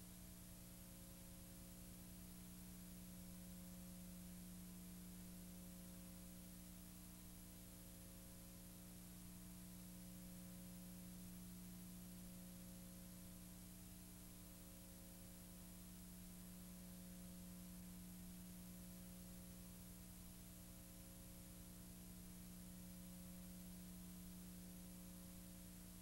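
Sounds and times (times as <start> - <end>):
low electrical hum with hiss: 0.0 - 26.0.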